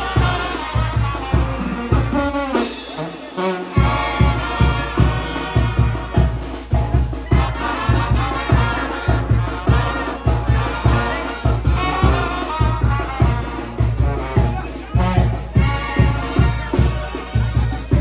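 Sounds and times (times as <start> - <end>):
bass and drum beat: 0.0 - 18.0
brass horns playing: 0.0 - 18.0.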